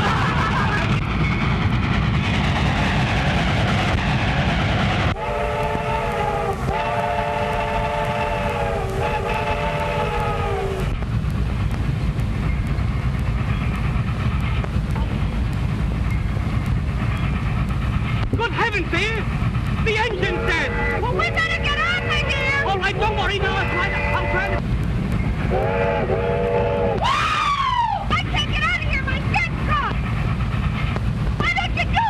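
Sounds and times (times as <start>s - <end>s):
steam train rumbling: 0.0s - 32.0s.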